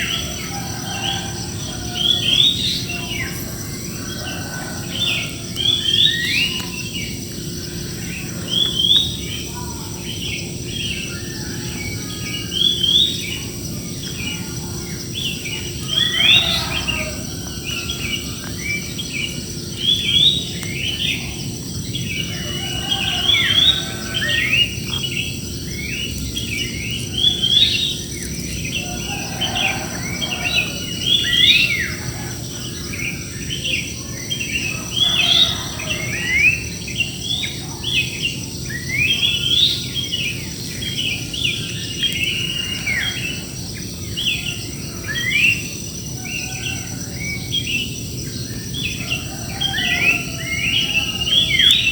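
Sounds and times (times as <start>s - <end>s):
flock of birds chirping: 0.0s - 51.9s.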